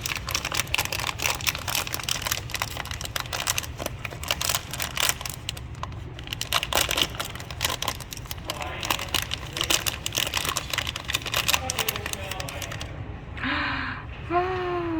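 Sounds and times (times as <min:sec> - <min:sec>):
plastic packaging crinkling and tearing: 0:00.0 - 0:12.9
low steady hum: 0:00.0 - 0:14.9.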